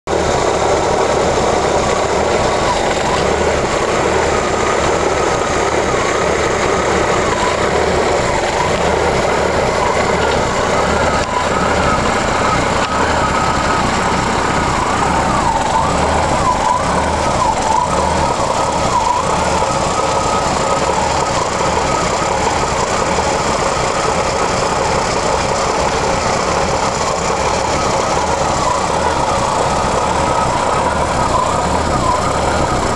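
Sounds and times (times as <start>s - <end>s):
engine idling roughly: 0.0s - 32.9s.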